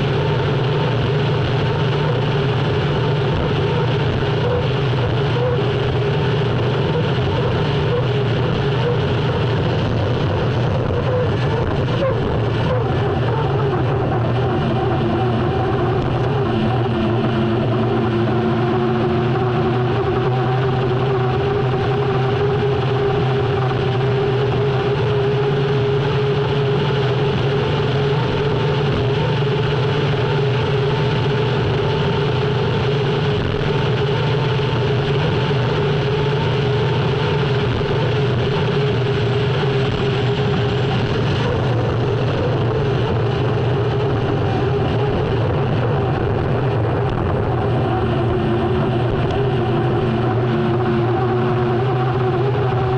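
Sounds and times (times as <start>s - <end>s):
gas turbine engine whine and rumble: 0.0s - 52.9s
rushing noise: 0.0s - 52.9s.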